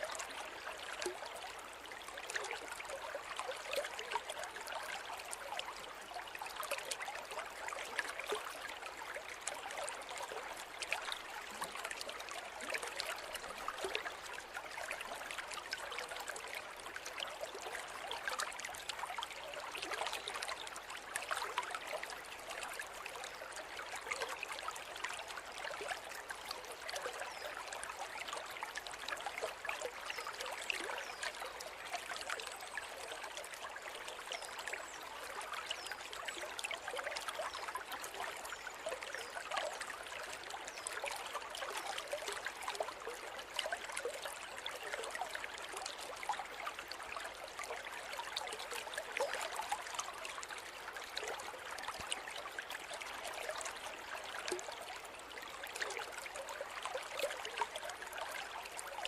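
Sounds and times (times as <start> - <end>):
small water splashes: 0.0 - 59.0
river babbling: 0.1 - 59.0.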